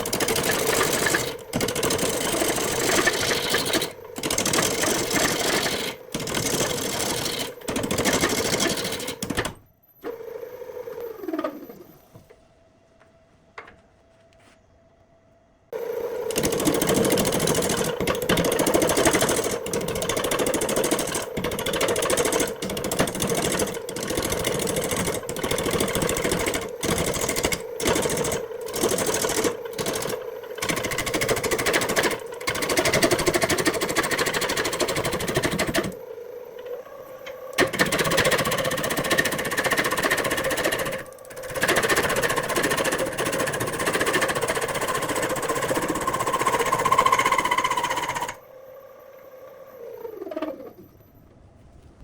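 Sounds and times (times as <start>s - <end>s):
electric power tool running: 0.0s - 9.3s, 15.8s - 48.4s.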